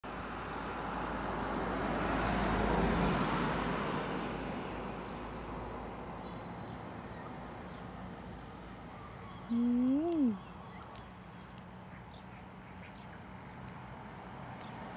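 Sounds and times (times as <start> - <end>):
passing vehicle engine and tyres: 0.0 - 14.9.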